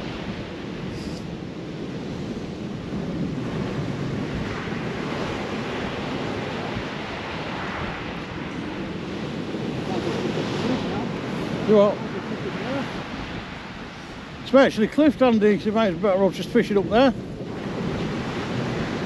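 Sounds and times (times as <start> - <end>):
surf breaking on beach: 0.0 - 19.0
wind buffeting microphone: 0.0 - 19.0.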